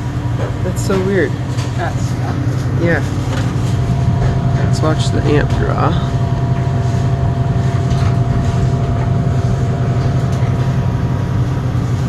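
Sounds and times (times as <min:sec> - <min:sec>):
refrigeration compressor humming: 0:00.0 - 0:12.0.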